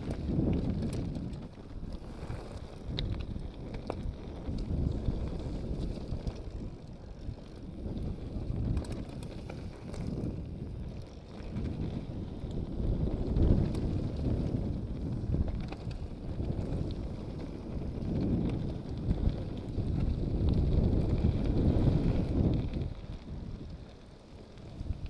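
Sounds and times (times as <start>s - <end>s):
bike clicks and rattles: 0.0s - 25.0s
wind rumble on microphone: 0.0s - 25.0s.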